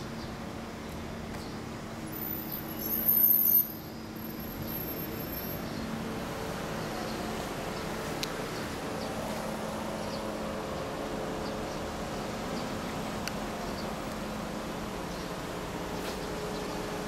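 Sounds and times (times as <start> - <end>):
low traffic hum: 0.0 - 17.0.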